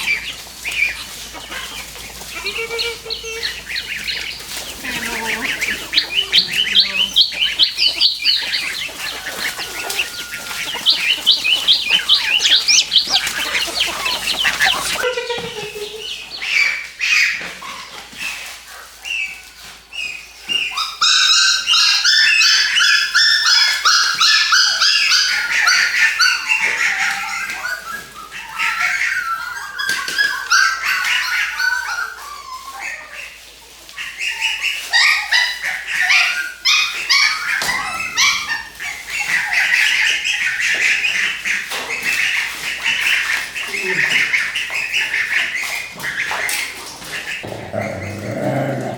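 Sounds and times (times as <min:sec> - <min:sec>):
dogs whimpering and yipping: 0:00.0 - 0:15.1, 0:20.5 - 0:48.9.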